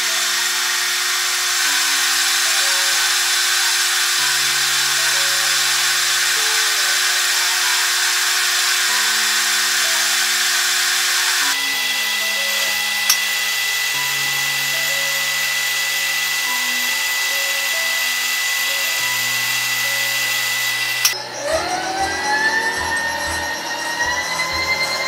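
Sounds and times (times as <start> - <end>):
lathe cutting with an even hiss: 0.0 - 25.0
milling machine high whine: 0.0 - 25.0
motor spinning up: 0.0 - 25.0
background music: 1.4 - 25.0.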